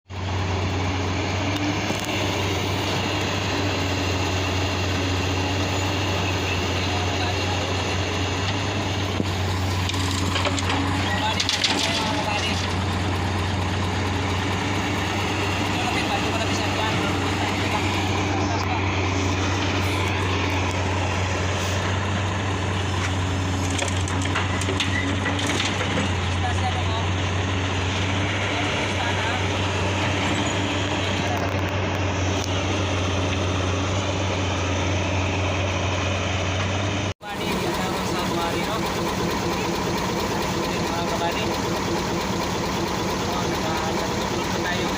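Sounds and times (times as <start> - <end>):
diesel engine droning: 0.1 - 44.9.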